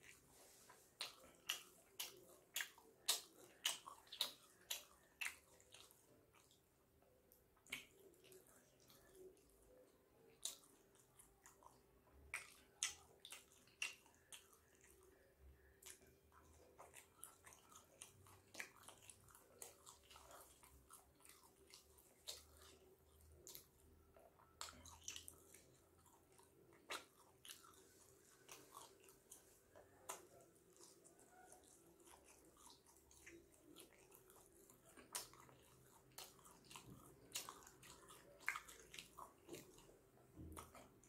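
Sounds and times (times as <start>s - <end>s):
chewing with soft mouth clicks: 0.0s - 41.0s.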